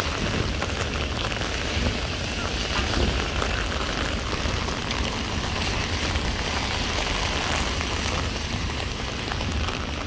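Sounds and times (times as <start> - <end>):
heavy rain on hard surfaces: 0.0 - 10.0.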